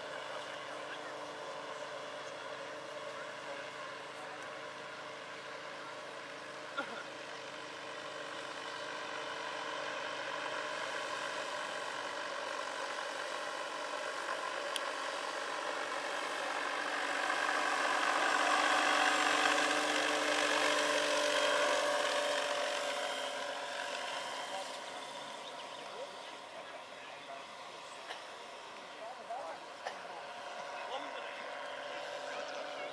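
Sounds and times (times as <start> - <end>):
model helicopter rotor hum: 0.0 - 32.9.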